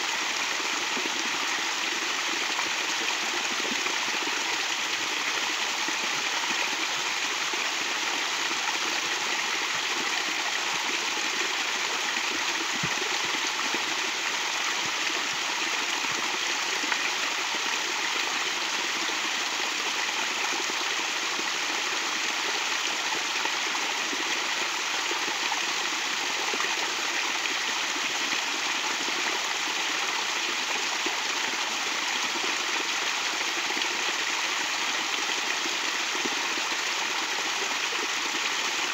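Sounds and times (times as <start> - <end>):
stream splashing over rocks: 0.0 - 38.9.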